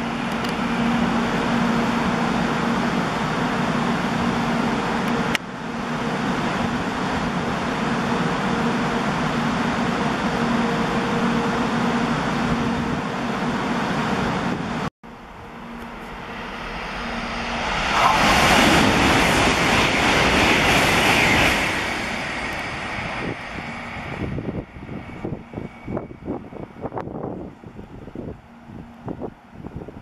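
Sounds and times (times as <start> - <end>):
bullet train rushing past: 0.0 - 30.0.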